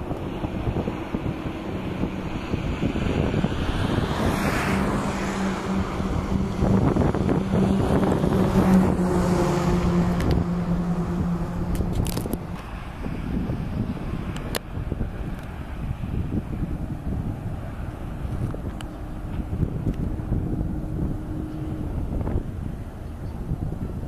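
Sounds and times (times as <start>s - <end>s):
jet engines roaring: 0.0s - 24.0s
wind buffeting microphone: 0.0s - 24.0s.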